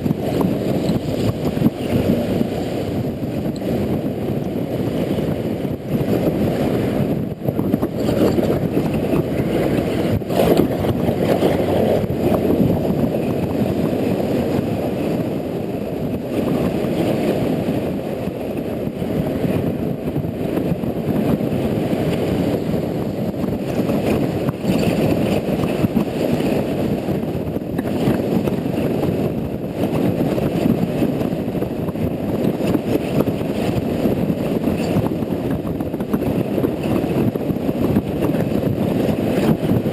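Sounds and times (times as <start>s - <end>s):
motorcycle road noise: 0.0s - 39.9s
wind noise on microphone: 0.0s - 39.9s.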